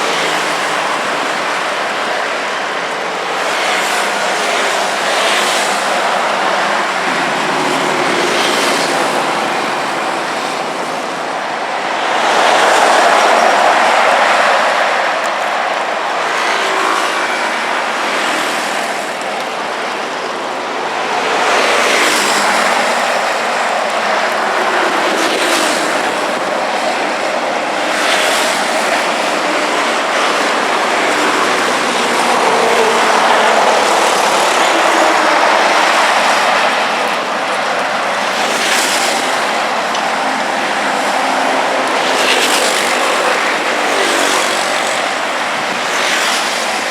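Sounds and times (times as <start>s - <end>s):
heavy street traffic: 0.0s - 46.9s
vehicles passing close by: 0.0s - 46.9s.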